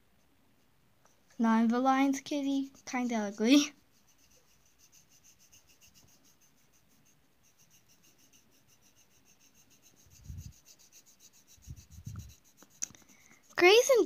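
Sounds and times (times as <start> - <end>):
pencil scratching on paper: 1.8 - 14.0.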